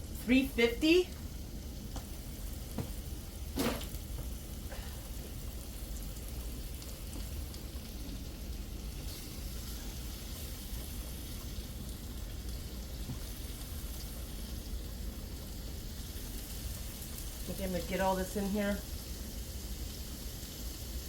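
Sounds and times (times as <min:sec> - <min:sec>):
chicken sizzling in oil: 0:00.0 - 0:21.0
low steady hum: 0:00.0 - 0:21.0.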